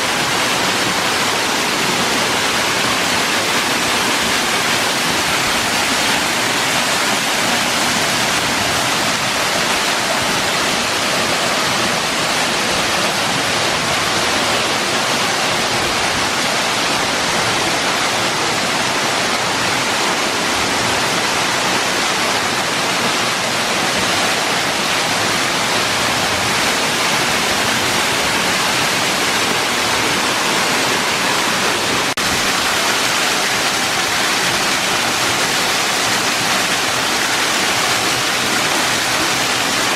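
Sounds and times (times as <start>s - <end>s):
waterfall pouring: 0.0s - 17.6s, 18.8s - 39.9s.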